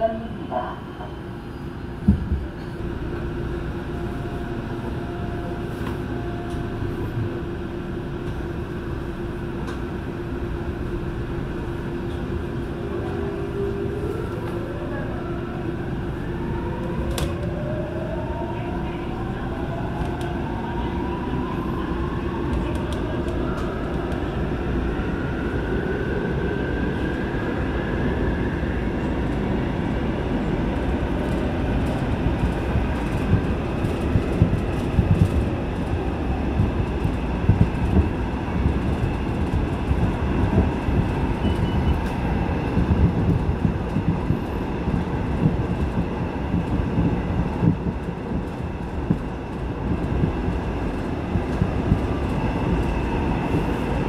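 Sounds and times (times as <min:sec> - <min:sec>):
wheel-on-rail rumble: 0:02.0 - 0:54.0.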